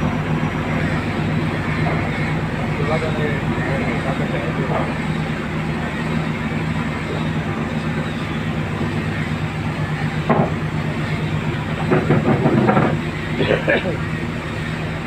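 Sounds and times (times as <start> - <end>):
boat diesel engine running: 0.0 - 15.0.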